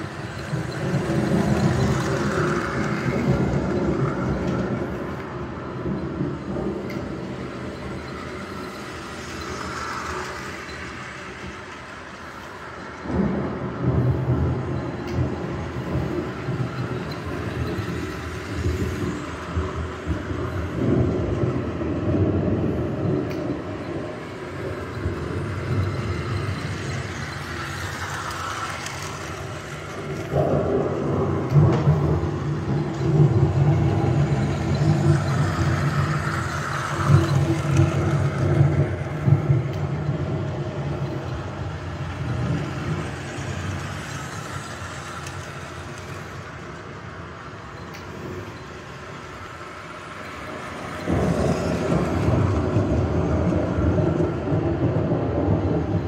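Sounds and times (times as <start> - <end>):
model train rumbling clatter: 0.0 - 56.0.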